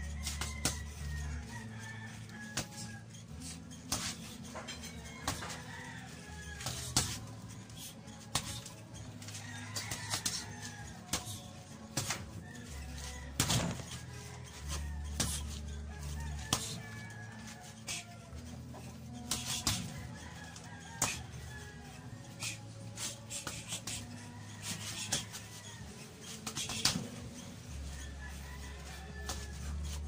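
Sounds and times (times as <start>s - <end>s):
background music with bass line: 0.0s - 30.0s.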